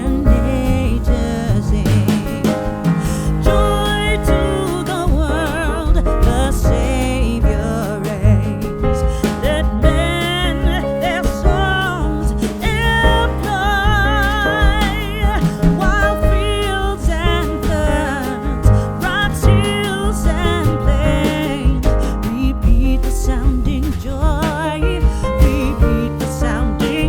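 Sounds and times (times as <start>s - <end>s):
bass and backing instruments: 0.0s - 27.0s
singing with vibrato: 0.0s - 27.0s.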